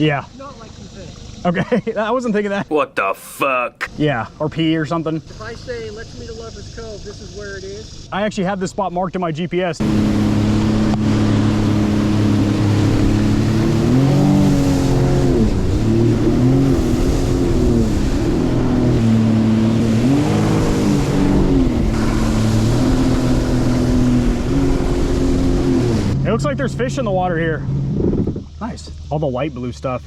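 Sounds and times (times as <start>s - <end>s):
boat engine revving: 0.0s - 30.0s.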